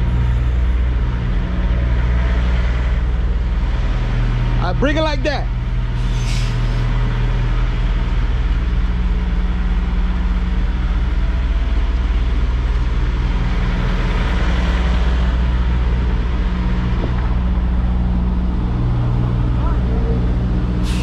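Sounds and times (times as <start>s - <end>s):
diesel truck engine idling low: 0.0s - 21.0s.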